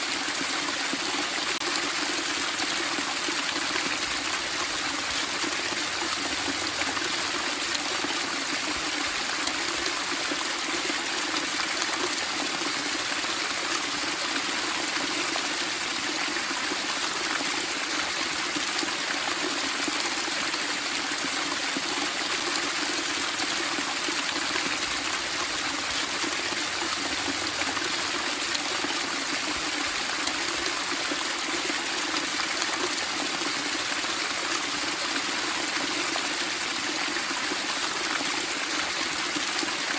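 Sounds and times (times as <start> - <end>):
flowing water babbling: 0.0 - 39.9.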